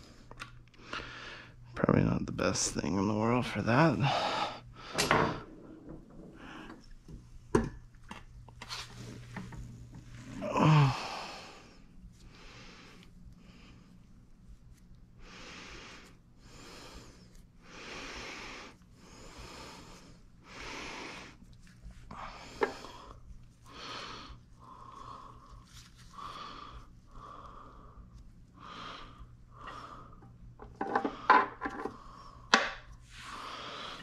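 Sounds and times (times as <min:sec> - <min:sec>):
person breathing: 0:00.0 - 0:01.7, 0:03.9 - 0:07.0, 0:10.2 - 0:14.2, 0:15.2 - 0:34.0.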